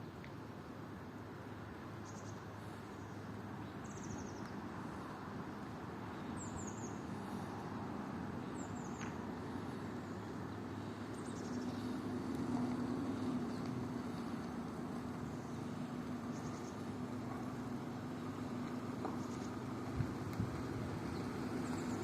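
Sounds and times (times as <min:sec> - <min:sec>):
distant traffic hum: 0:00.0 - 0:22.0
vehicle hum: 0:00.0 - 0:22.0.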